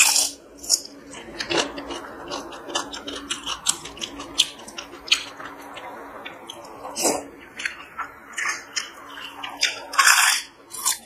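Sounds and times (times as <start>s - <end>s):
chewing with wet mouth clicks: 0.0s - 11.0s
faint steady hum: 0.0s - 11.0s
fingers mixing rice on steel plate: 0.0s - 11.0s.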